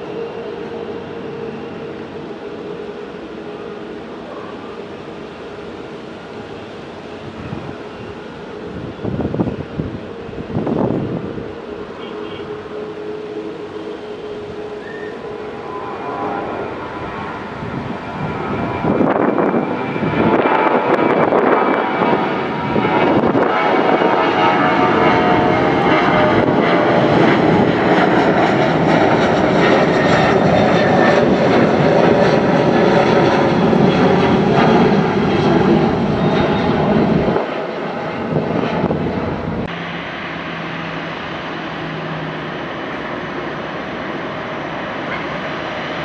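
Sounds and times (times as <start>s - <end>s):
jet engine hum: 0.0s - 46.0s
jet engines roaring: 0.0s - 46.0s.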